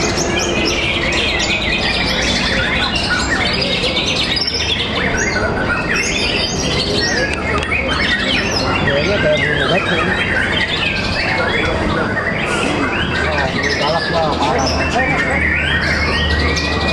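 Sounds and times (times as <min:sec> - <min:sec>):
birds singing whistled phrases: 0:00.0 - 0:16.9.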